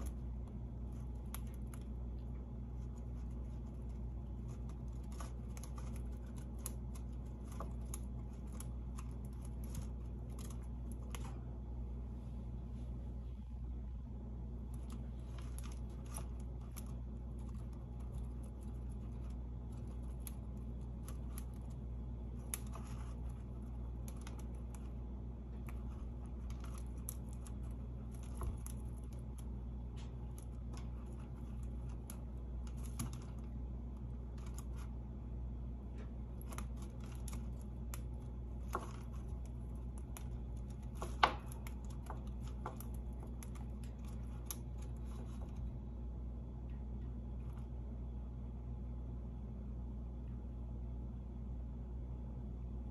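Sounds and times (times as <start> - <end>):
chinchilla gnawing wooden toy: 0.0 - 11.5, 14.4 - 45.9.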